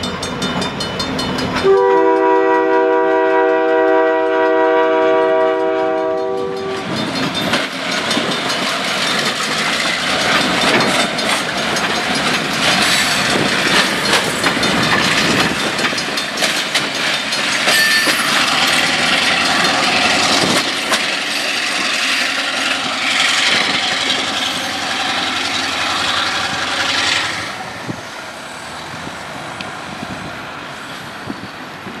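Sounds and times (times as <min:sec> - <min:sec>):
train wheels clattering over rail joints: 0:00.0 - 0:02.6, 0:03.4 - 0:28.3.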